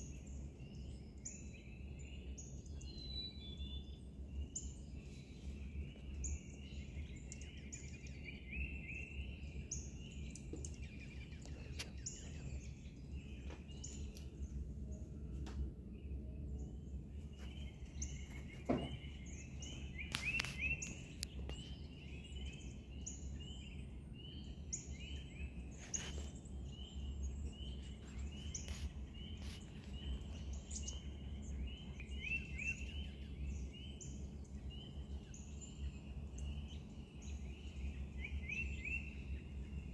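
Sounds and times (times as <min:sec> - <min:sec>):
songbirds chirping and twittering: 0:00.0 - 0:39.9
steady low hum: 0:00.0 - 0:39.9.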